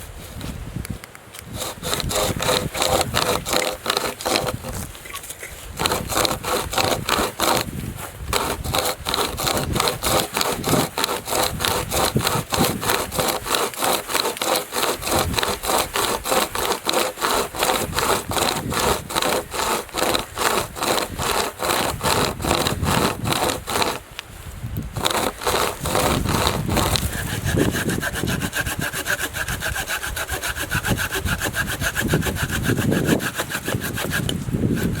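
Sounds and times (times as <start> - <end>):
hand saw cutting wood: 1.4 - 24.2, 24.9 - 35.0.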